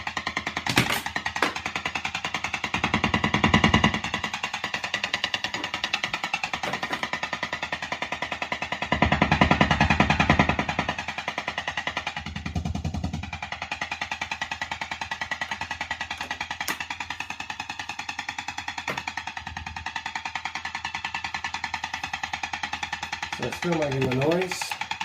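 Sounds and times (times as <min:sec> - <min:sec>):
guitar amplifier ticking: 0:00.0 - 0:25.0.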